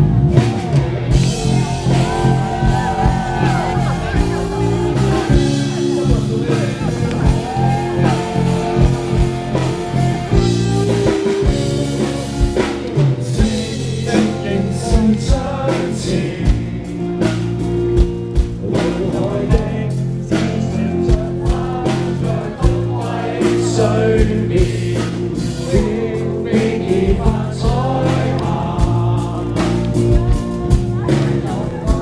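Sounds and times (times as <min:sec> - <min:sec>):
drum kit beat: 0:00.0 - 0:32.0
electric guitar: 0:00.0 - 0:32.0
rock band playing live: 0:00.0 - 0:32.0
sustained bass notes: 0:00.0 - 0:32.0.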